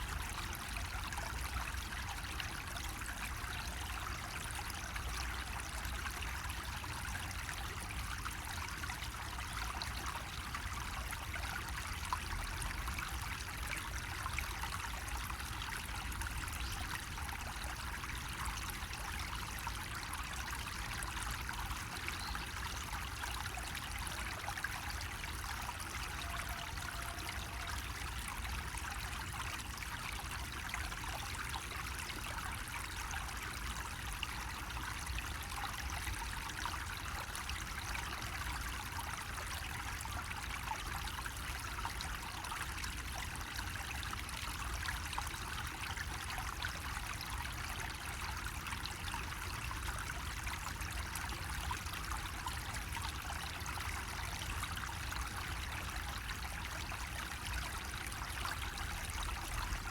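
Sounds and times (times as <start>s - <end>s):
water trickling from a spout: 0.0s - 59.9s.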